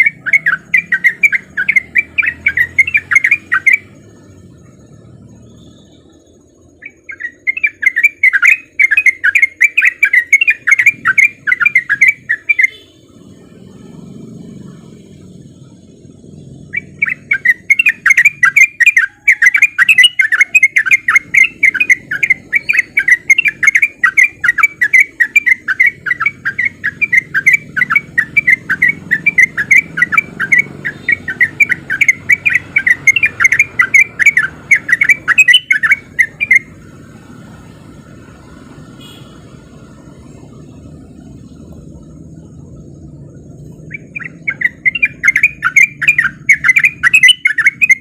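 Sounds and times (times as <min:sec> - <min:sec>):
bird singing chattering notes: 0:00.0 - 0:48.0.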